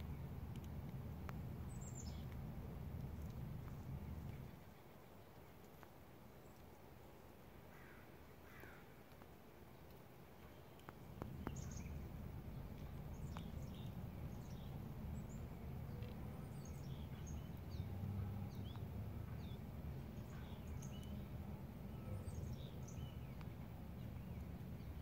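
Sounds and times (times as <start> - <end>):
small birds chirping: 0.0 - 25.0
faint clicks: 0.1 - 6.8, 7.7 - 19.6, 22.8 - 25.0.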